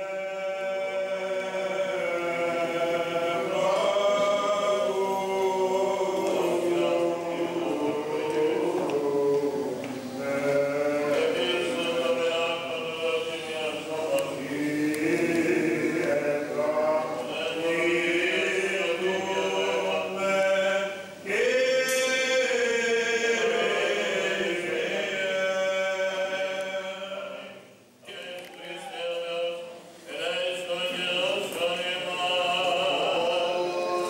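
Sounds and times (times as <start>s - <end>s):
low vocal drone: 0.0s - 34.0s
voices chanting: 0.0s - 34.0s.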